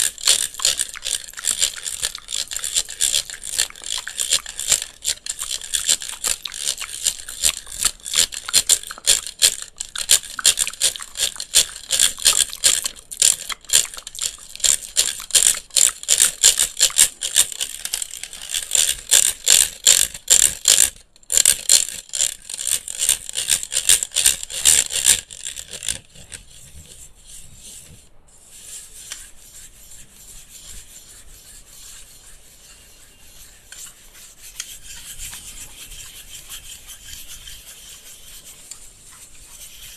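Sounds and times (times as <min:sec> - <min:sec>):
scratching and rubbing on fan: 0:00.0 - 0:39.9.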